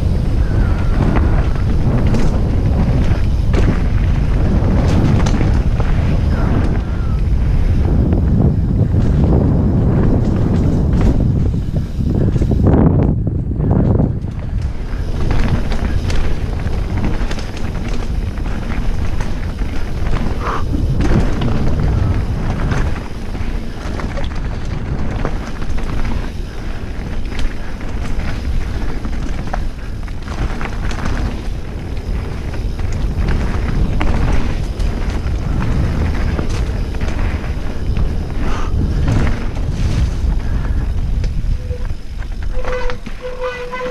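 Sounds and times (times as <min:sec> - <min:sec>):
bike knocks and rattles over rocks: 0:00.0 - 0:43.9
wind buffeting microphone: 0:00.0 - 0:43.9.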